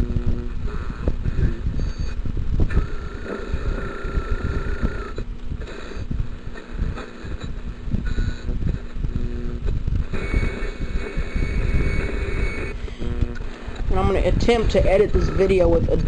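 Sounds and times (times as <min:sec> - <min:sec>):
radio static hissing: 0:00.0 - 0:16.0.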